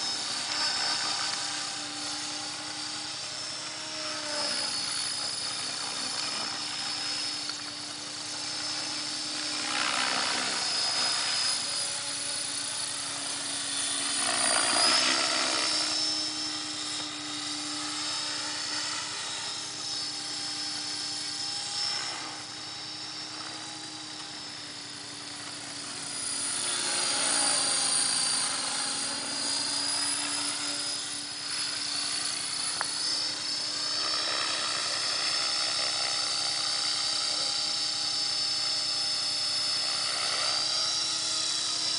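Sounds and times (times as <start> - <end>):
rc helicopter rotor whir: 0.0 - 41.9.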